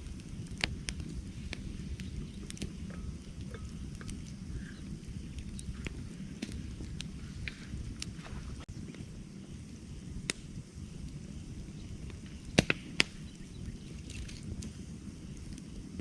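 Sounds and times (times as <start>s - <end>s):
campfire burning and crackling: 0.0s - 16.0s
fire popping: 0.0s - 16.0s.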